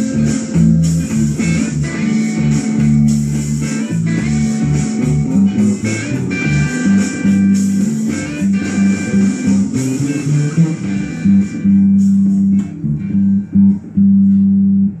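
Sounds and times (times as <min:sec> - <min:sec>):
electric bass guitar: 0:00.0 - 0:15.0.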